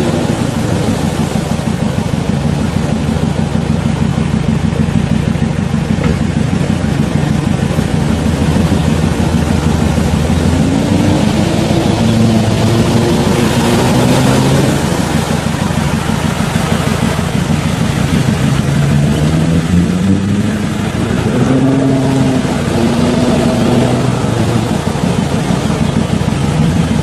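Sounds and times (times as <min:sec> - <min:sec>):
engine revving: 0:00.0 - 0:27.0.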